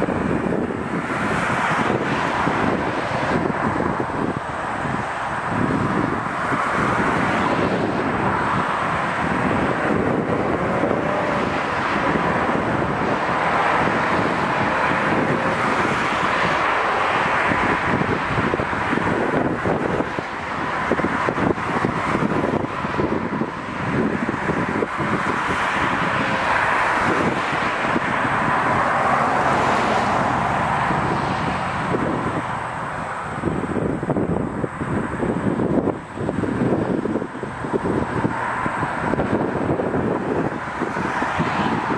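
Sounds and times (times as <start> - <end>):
distant road traffic: 0.0 - 41.9
wind on microphone: 0.0 - 41.9.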